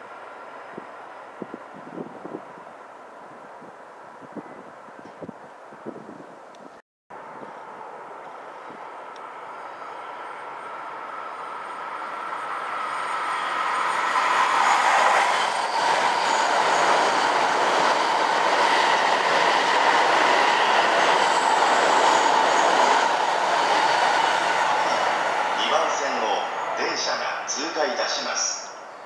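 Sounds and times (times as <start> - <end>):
high-speed train passing: 0.0 - 4.2, 7.2 - 29.0.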